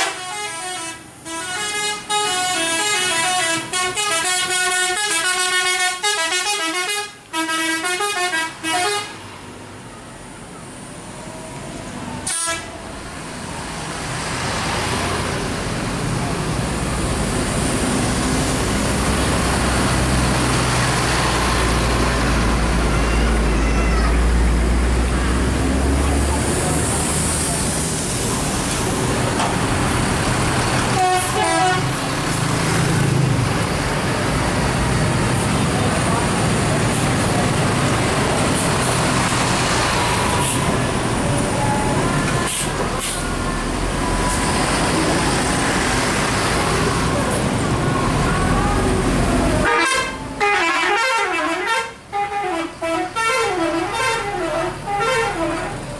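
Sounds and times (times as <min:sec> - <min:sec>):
bus engine droning: 0:00.0 - 0:55.9
road and traffic noise: 0:00.0 - 0:55.9.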